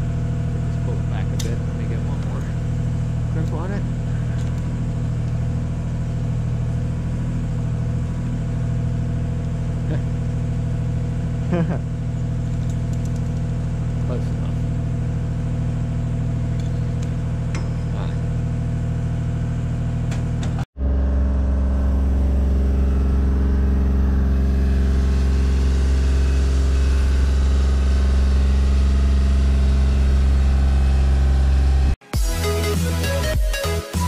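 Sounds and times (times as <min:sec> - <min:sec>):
boom lift engine running: 0:00.0 - 0:32.0.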